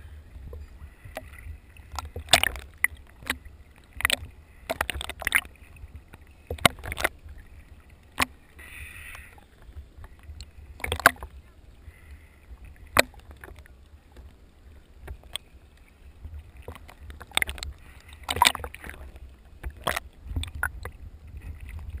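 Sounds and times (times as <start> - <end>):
waves splashing against camera: 0.0 - 22.0.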